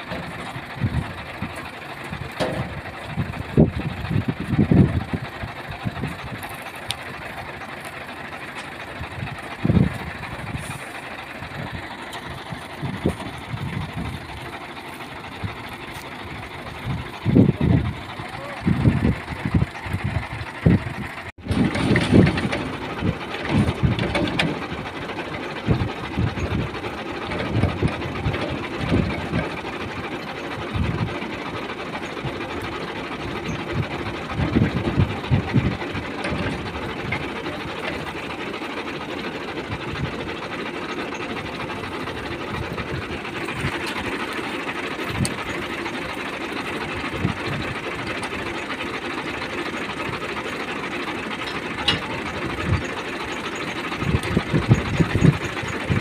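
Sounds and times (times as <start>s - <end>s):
metal clanks and knocks: 0.0s - 18.1s, 21.1s - 56.0s
engine running steadily: 0.0s - 56.0s.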